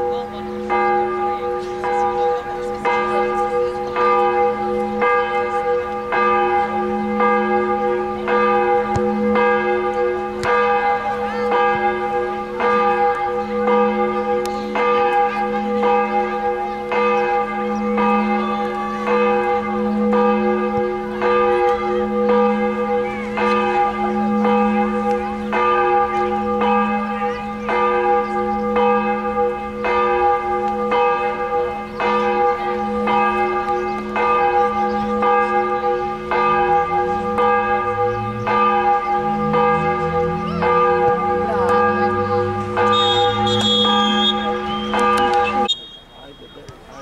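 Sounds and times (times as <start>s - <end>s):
large bell ringing: 0.0s - 47.0s.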